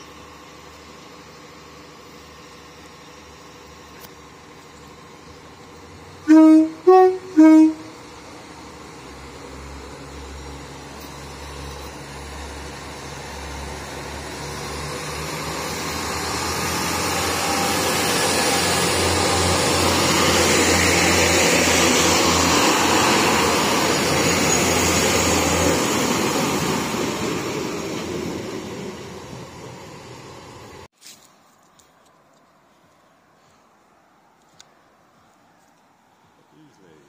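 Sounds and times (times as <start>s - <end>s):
low engine drone: 0.0s - 30.9s
train passing: 0.0s - 30.9s.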